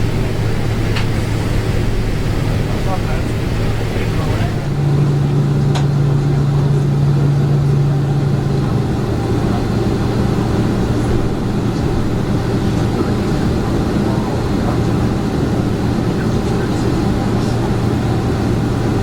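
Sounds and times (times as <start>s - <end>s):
aircraft cabin engine rumble: 0.0s - 19.0s
low hum: 0.0s - 19.0s.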